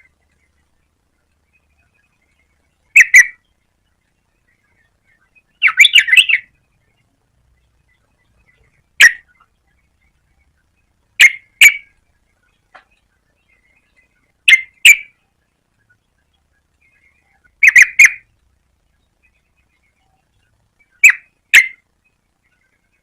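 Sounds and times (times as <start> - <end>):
bird chirping calls: 0.0 - 23.0.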